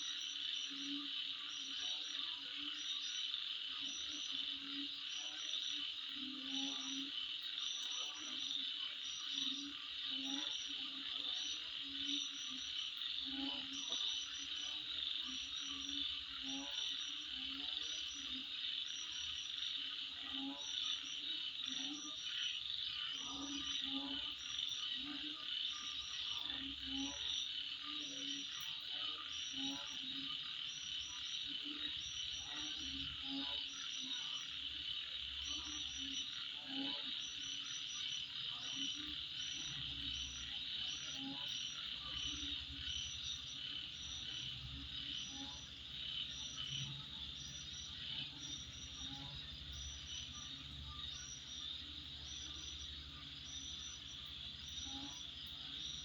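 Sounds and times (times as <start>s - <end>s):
crickets droning: 0.0s - 56.0s
lower insect call: 0.0s - 56.0s.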